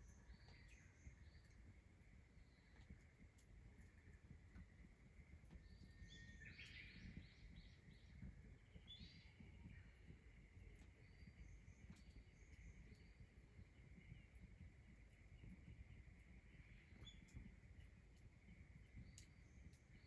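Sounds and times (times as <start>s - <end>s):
faint birdsong chirps: 0.0s - 20.0s.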